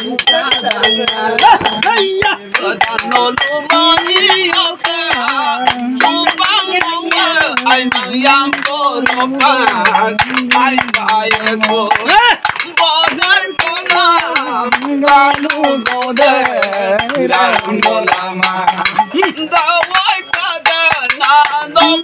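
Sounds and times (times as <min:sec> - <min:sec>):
man singing: 0:00.0 - 0:22.0
people clapping: 0:00.0 - 0:22.0.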